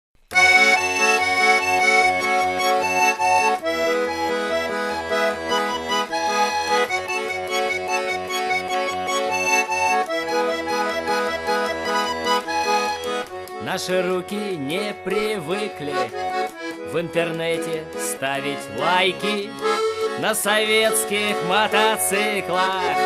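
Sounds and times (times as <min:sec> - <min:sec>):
accordion playing melody: 0:00.3 - 0:23.0.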